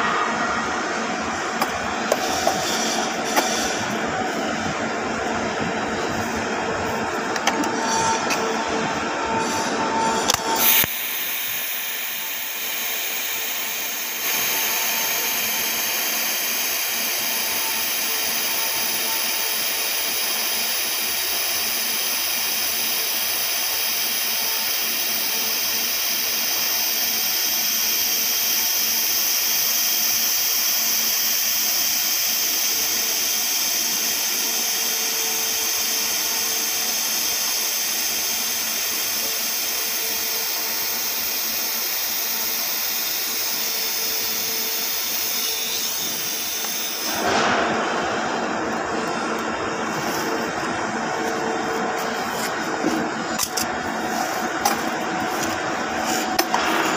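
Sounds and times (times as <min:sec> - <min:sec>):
welding arc hissing: 0:10.6 - 0:56.9.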